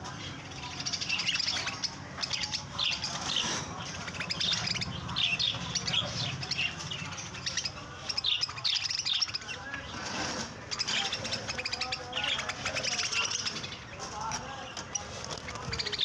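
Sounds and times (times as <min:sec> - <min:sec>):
budgerigars chattering: 0:00.3 - 0:16.0.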